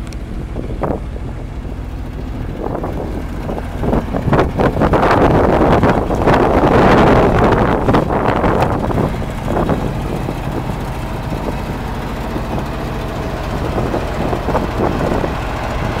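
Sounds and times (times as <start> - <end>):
truck engine idling: 0.0 - 16.0
wind on microphone: 0.0 - 16.0.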